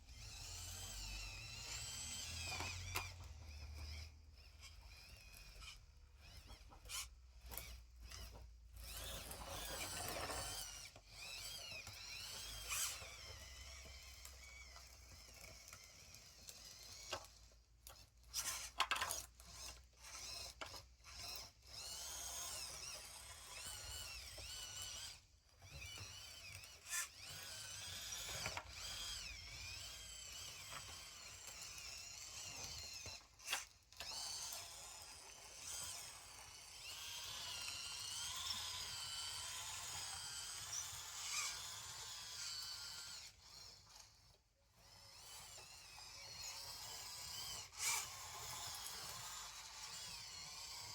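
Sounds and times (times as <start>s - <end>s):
small electric motors whining: 0.0s - 50.9s.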